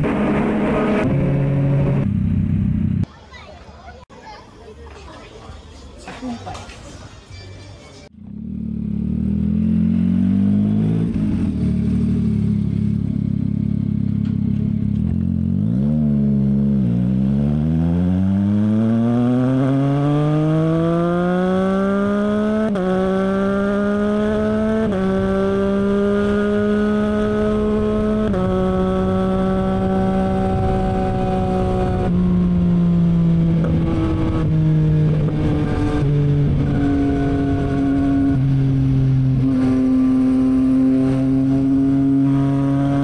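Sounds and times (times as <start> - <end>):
motorcycle engine accelerating: 0.0 - 3.1, 8.1 - 43.0.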